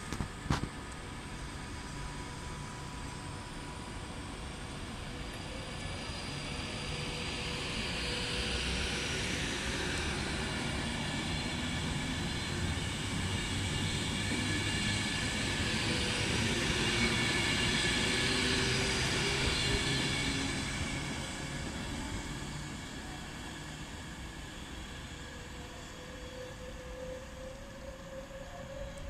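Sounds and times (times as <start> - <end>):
train wheels rumbling: 4.1 - 29.0.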